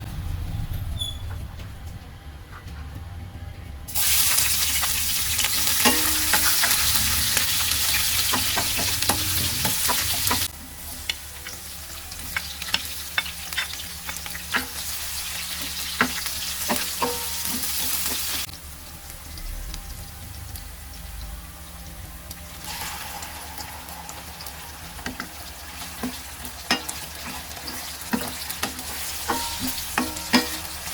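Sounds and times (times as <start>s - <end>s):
food sizzling in a pan: 3.9s - 30.9s.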